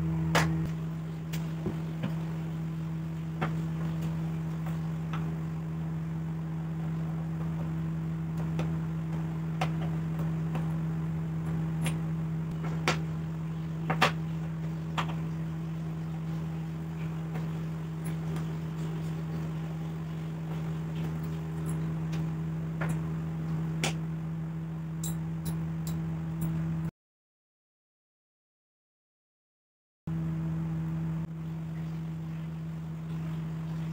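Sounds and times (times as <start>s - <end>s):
low hum: 0.0s - 26.9s, 30.1s - 33.9s.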